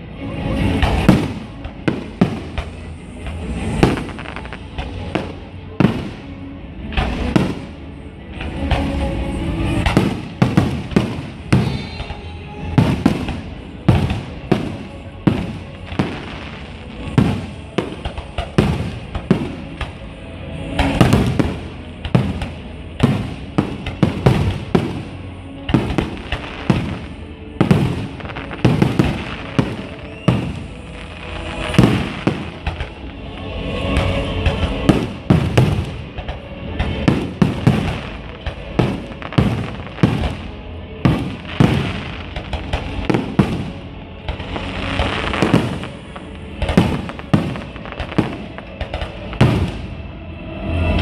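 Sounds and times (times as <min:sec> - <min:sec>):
fireworks bursting with sharp bangs: 0:00.4 - 0:50.1.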